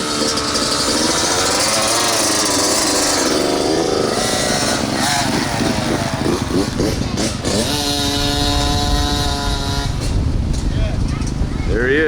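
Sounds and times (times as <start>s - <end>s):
two-stroke dirt bike engine: 0.0s - 11.4s.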